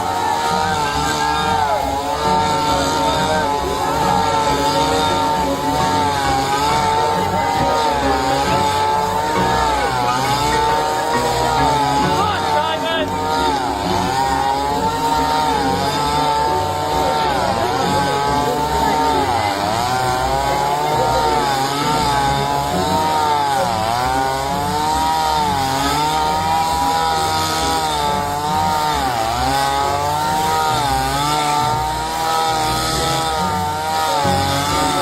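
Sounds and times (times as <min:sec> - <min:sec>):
grass cutter engine running: 0:00.0 - 0:35.0.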